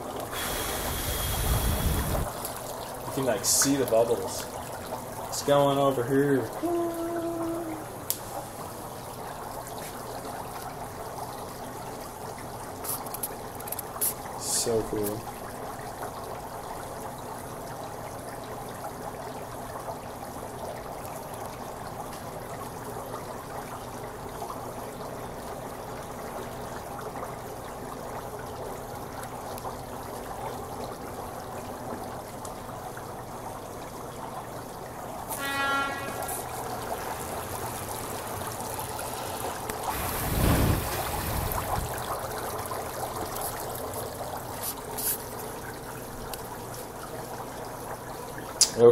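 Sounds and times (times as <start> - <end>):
dry ice bubbling in water: 0.0 - 48.9.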